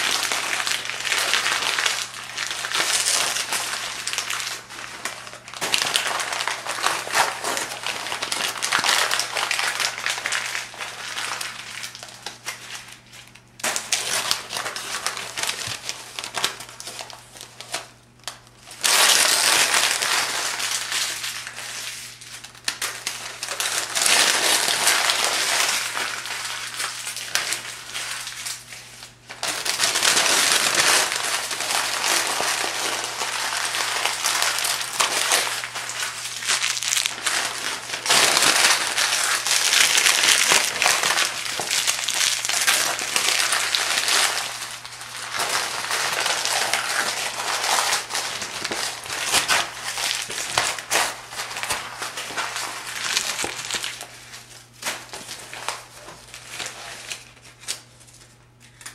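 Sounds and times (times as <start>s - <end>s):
paper crinkling and crackling: 0.0s - 58.9s.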